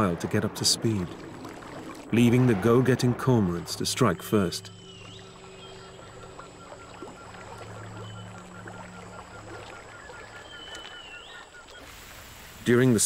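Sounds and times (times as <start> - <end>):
low steady hum: 0.0 - 12.6
water lapping and splashing: 0.0 - 13.0.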